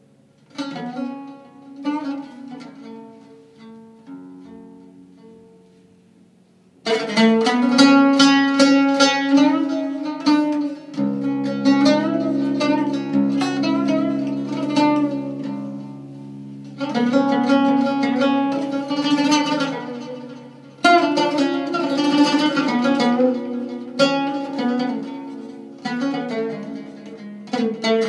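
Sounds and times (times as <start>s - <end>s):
plucked string instrument music: 0.0s - 28.0s.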